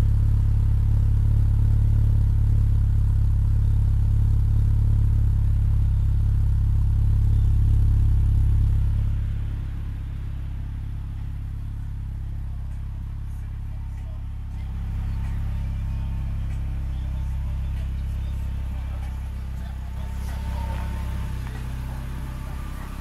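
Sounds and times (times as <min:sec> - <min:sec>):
car engine idling with deep exhaust: 0:00.0 - 0:23.0.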